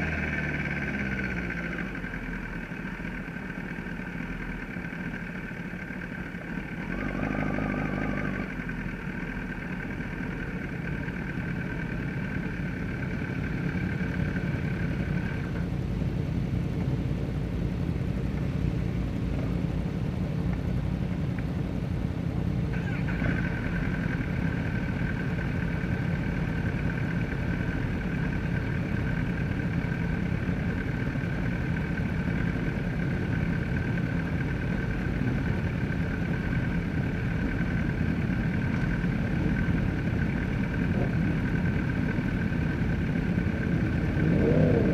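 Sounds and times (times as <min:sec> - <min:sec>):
motorcycle engine low rumble: 0:00.0 - 0:44.9.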